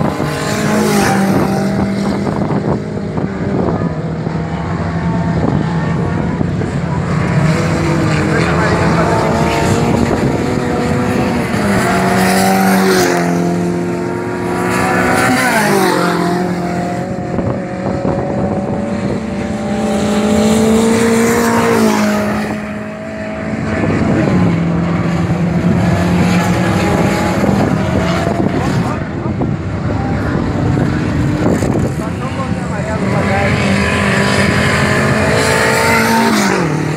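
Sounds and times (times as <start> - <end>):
race car engine at full throttle: 0.0 - 36.9.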